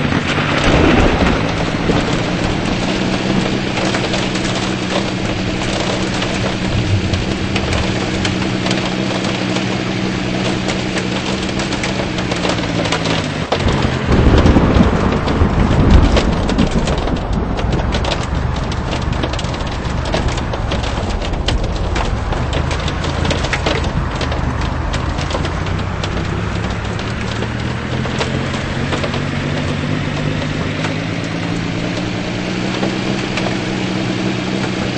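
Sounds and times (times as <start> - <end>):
low rumble of thunder: 0.0 - 34.9
rain pattering on vehicle: 0.0 - 34.9
vehicle engine running: 0.0 - 34.9.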